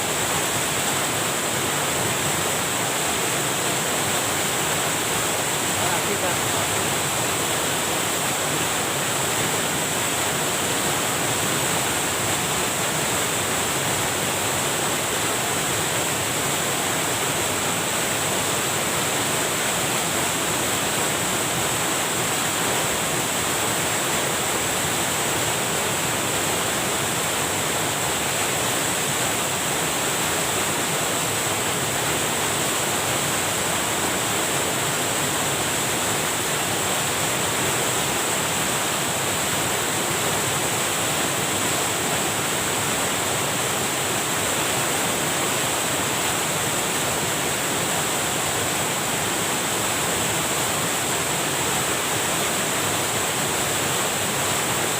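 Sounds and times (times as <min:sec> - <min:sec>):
water rushing over cascade: 0:00.0 - 0:54.9.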